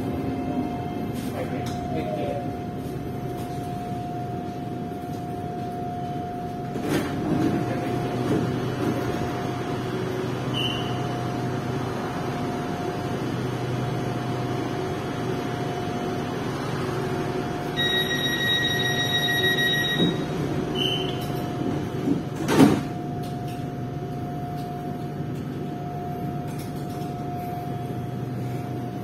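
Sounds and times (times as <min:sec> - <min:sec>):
electric train interior hum: 0:00.0 - 0:29.0.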